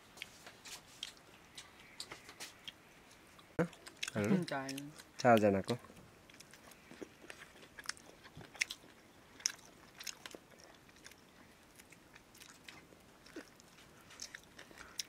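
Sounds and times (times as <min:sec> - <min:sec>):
chewing corn kernels: 0:00.2 - 0:15.0.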